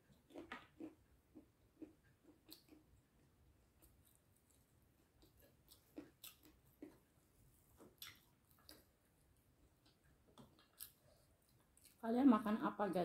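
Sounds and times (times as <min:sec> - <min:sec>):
chewing and eating sounds: 0:00.0 - 0:12.1.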